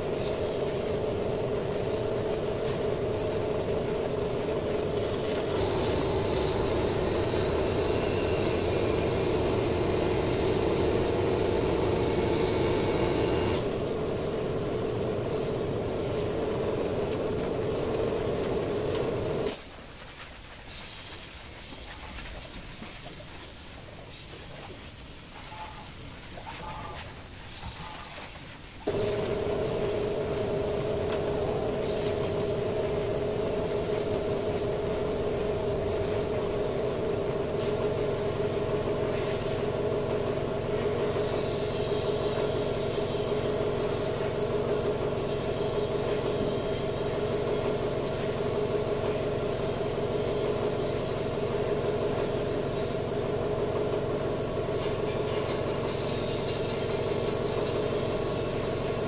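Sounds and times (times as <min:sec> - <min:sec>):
low hum: 0:00.0 - 0:19.6, 0:28.9 - 0:58.5
mechanical engine drone: 0:00.0 - 0:19.6, 0:28.8 - 0:59.0.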